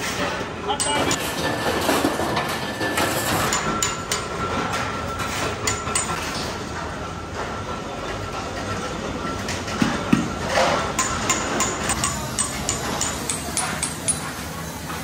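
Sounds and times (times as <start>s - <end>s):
workshop noise: 0.0s - 15.0s.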